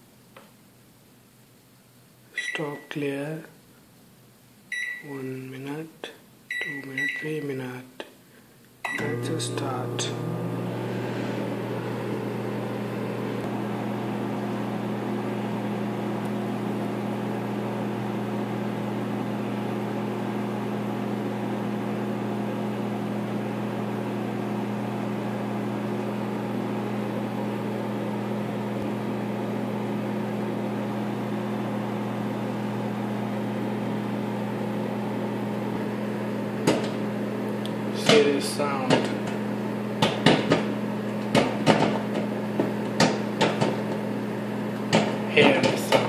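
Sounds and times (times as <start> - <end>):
microwave oven humming: 4.7 - 5.2, 6.5 - 7.8, 8.8 - 46.0.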